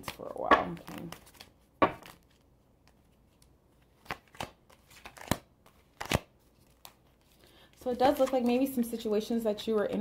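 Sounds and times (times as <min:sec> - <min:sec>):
cards shuffled and snapping: 0:00.0 - 0:08.8.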